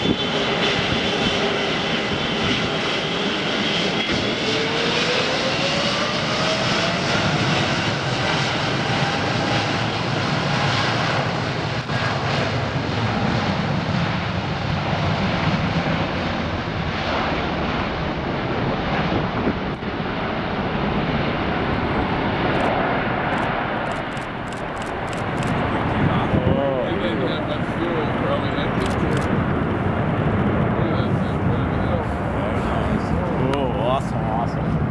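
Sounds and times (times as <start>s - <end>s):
jet engine whine rising: 0.0s - 34.9s
jet engines running: 0.0s - 34.9s.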